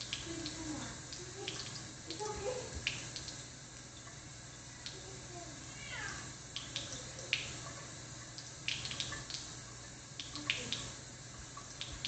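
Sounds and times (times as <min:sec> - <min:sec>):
low steady hum: 0:00.0 - 0:12.0
water splashing in a bathtub: 0:00.0 - 0:12.0.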